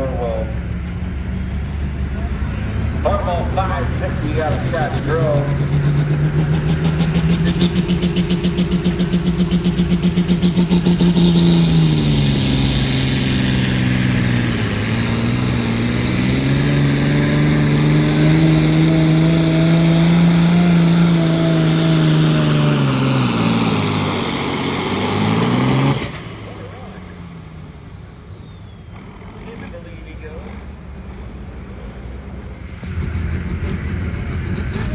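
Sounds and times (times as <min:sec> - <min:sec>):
tractor engine revving hard: 0:00.0 - 0:34.9.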